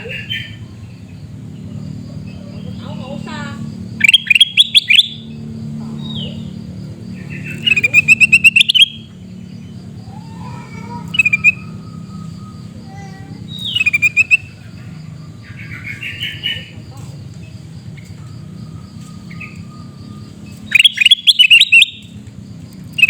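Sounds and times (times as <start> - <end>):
bird chattering calls: 0.0 - 22.2
steady low hum: 0.0 - 23.0.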